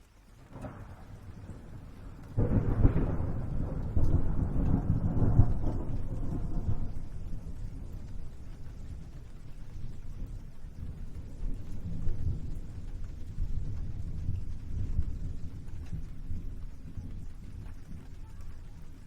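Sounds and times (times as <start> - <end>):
thunder: 0.4 - 19.0.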